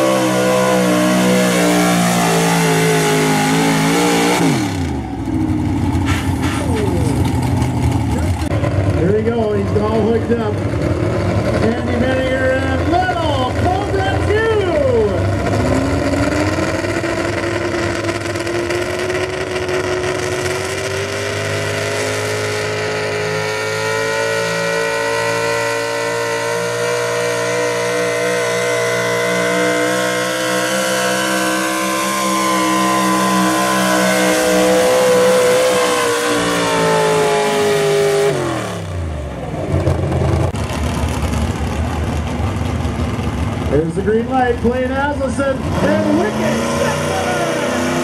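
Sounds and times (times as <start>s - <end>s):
tractor engine at full throttle: 0.0s - 48.0s.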